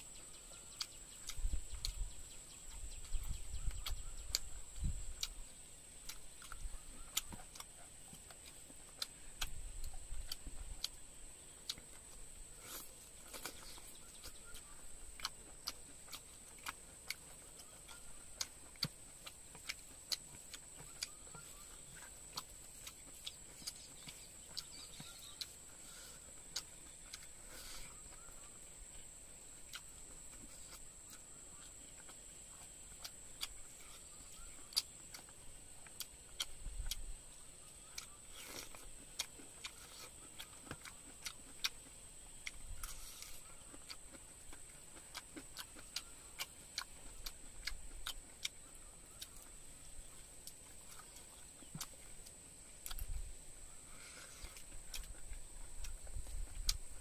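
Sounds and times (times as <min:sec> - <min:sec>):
chewing food: 0:00.0 - 0:57.0.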